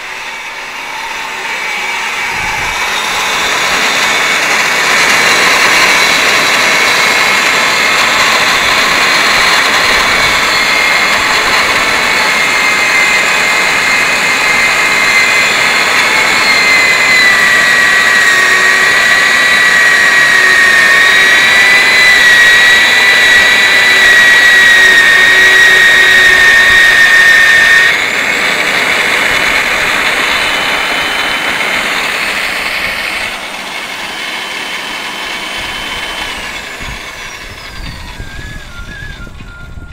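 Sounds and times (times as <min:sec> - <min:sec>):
drilling machine whining: 0:00.0 - 0:39.9.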